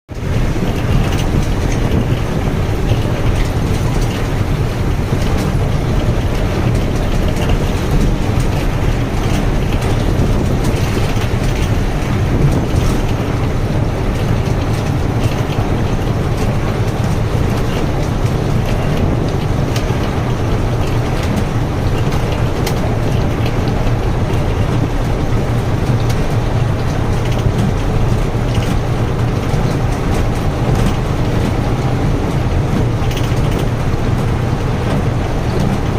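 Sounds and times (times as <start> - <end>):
heavy rain pouring: 0.1 - 35.9.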